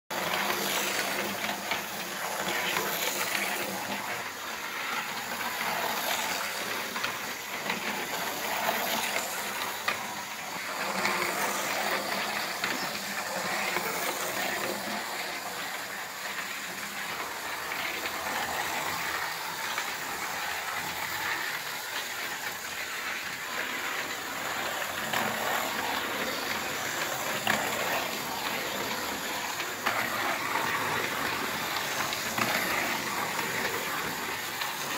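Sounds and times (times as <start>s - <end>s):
whirring of small electric motors: 0.1s - 34.9s.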